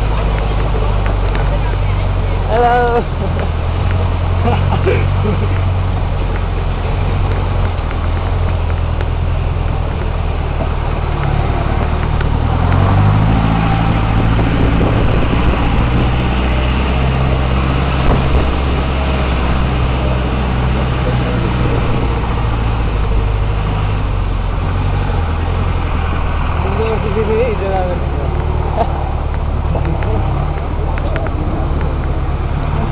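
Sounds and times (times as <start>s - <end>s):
constant rushing noise: 0.0s - 32.9s
vehicle engine speeding up: 0.0s - 32.9s.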